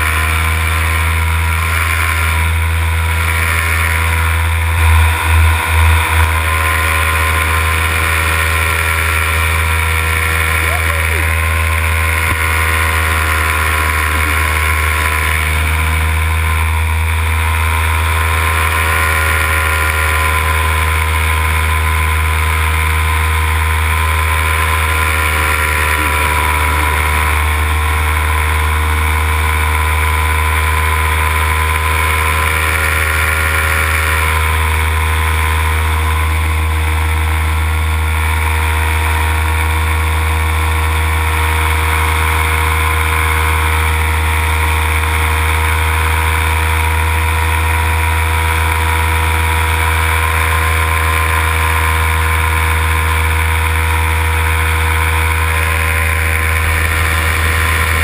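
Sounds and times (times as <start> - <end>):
paramotor engine drone: 0.0 - 58.0.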